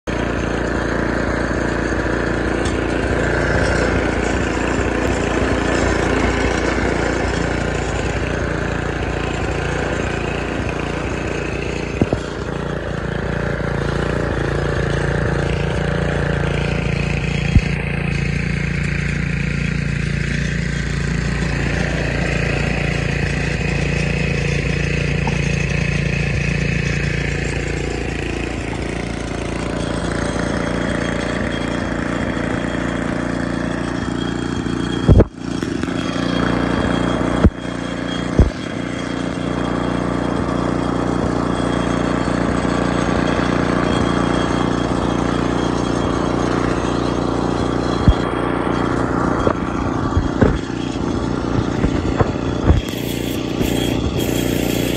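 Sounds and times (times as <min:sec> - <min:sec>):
snowblower engine running: 0:00.0 - 0:54.9.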